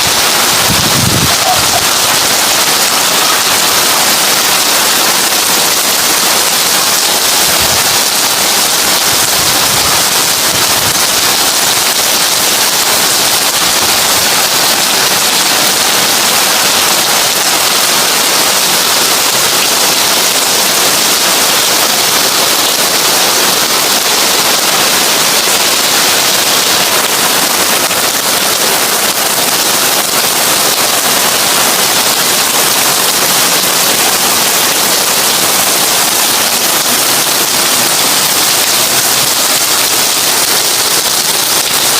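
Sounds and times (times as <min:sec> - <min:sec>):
heavy rain on a tin roof: 0:00.0 - 0:41.9.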